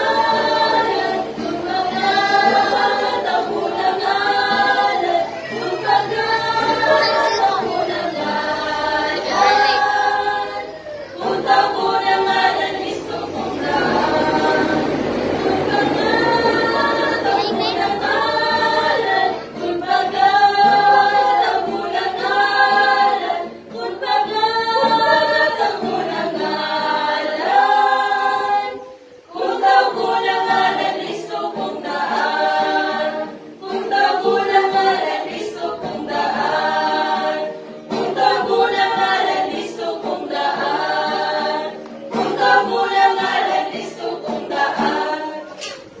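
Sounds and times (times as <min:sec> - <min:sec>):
choir singing unaccompanied: 0:00.0 - 0:46.0.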